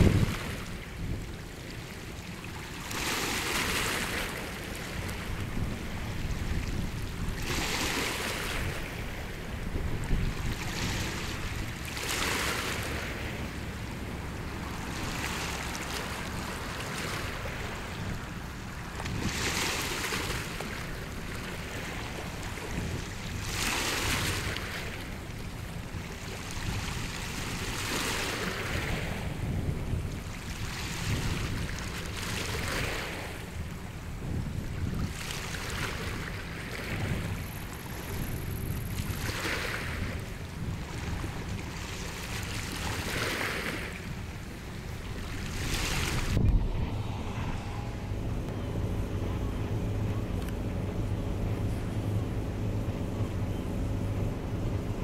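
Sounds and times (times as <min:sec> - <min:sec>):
small waves washing in: 0:00.0 - 0:55.0
wind rumble on microphone: 0:00.0 - 0:55.0.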